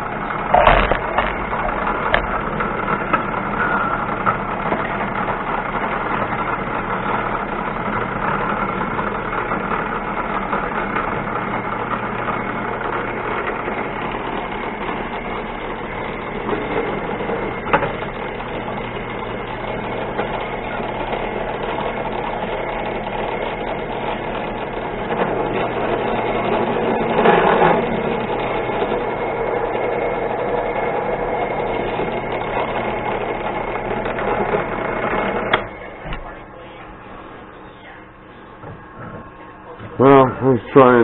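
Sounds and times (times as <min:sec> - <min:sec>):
machine tool motor running: 0:00.0 - 0:41.0.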